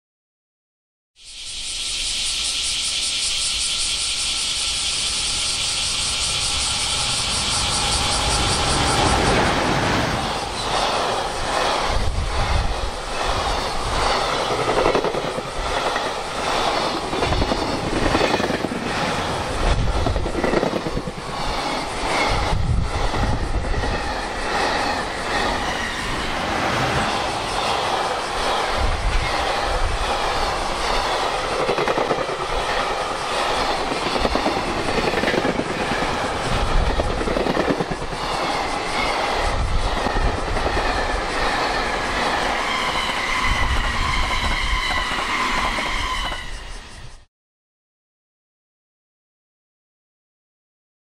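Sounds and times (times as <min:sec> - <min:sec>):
cicadas chorus: 0:01.2 - 0:47.3
freight train passing: 0:01.4 - 0:47.3.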